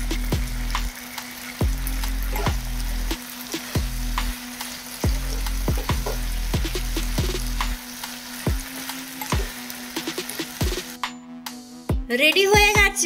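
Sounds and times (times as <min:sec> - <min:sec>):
mushrooms sizzling in a pan: 0:00.0 - 0:11.0
background music with thudding beat: 0:00.0 - 0:13.0.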